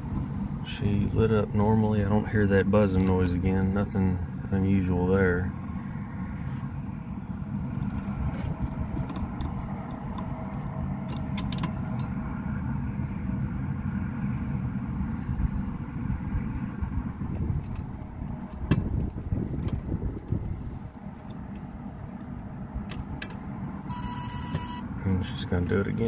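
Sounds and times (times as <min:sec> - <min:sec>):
low mechanical rumble: 0:00.0 - 0:26.0.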